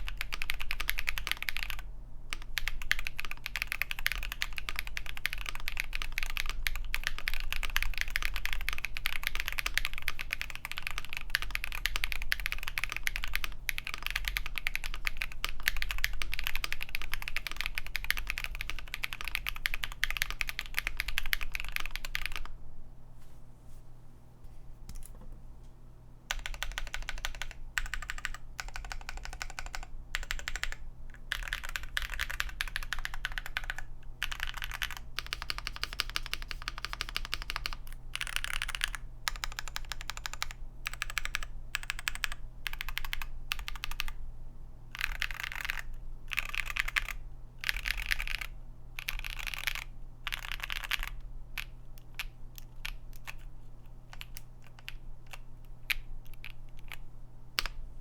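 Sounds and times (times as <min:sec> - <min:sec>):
mechanical keyboard keys clacking: 0:00.0 - 0:22.5, 0:26.3 - 0:44.1, 0:45.0 - 0:53.5.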